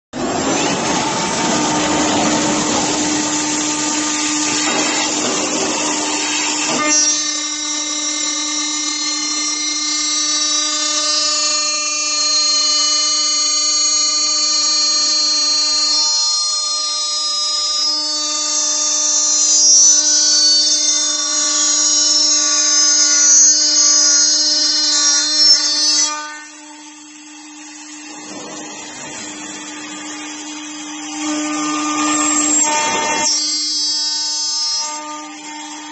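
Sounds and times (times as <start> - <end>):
saw motor whining: 0.2 - 35.9.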